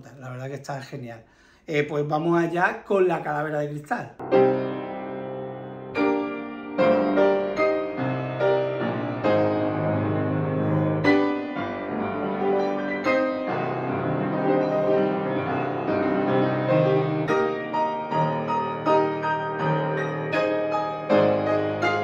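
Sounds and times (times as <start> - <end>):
piano music: 4.2 - 22.0.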